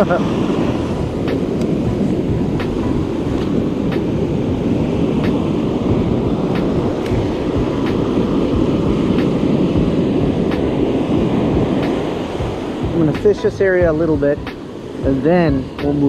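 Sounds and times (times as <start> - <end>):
surf washing up beach: 0.0 - 16.0
wind buffeting microphone: 0.0 - 16.0.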